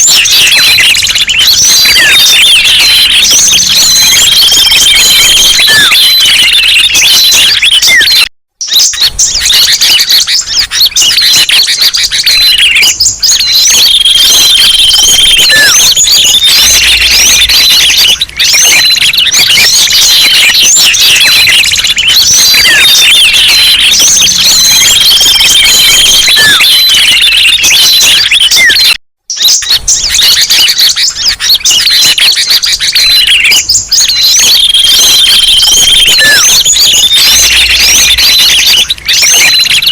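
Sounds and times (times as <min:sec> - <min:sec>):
small songbirds chirping and calling: 0:00.0 - 0:39.9.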